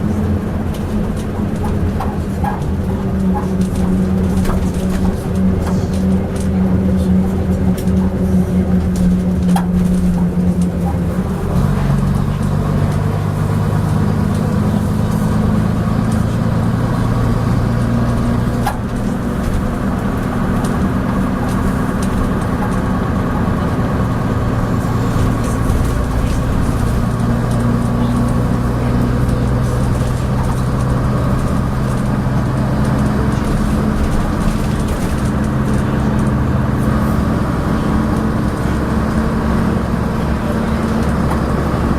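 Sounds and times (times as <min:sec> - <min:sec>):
bus engine running: 0:00.0 - 0:41.9.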